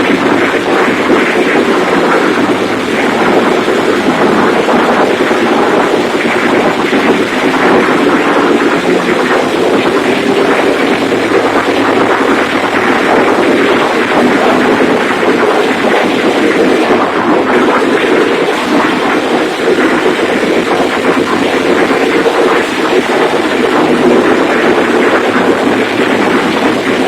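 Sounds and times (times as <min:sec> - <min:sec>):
large engine running: 0:00.0 - 0:27.0.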